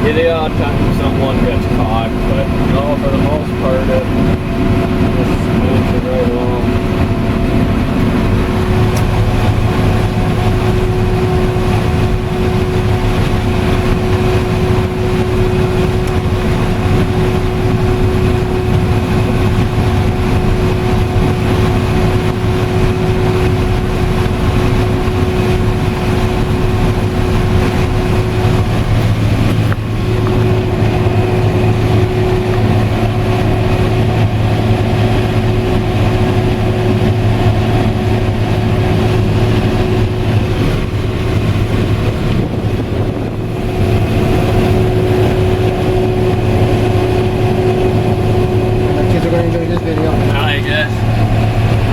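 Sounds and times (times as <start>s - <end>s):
combine harvester running: 0.0s - 51.9s.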